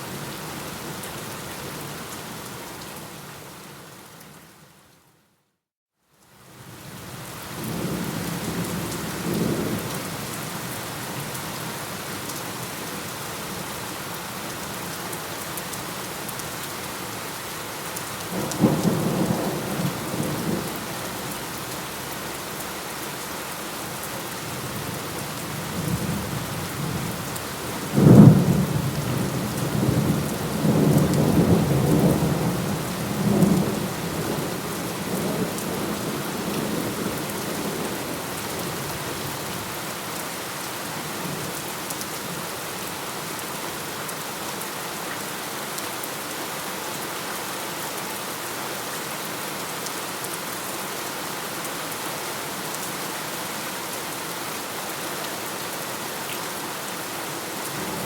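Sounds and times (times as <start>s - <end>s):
steady rain: 0.0s - 5.3s, 6.0s - 58.0s.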